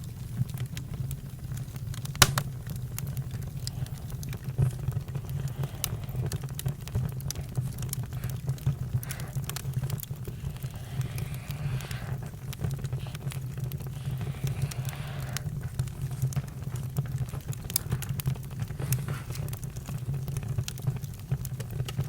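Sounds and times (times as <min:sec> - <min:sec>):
campfire crackling: 0:00.0 - 0:21.6.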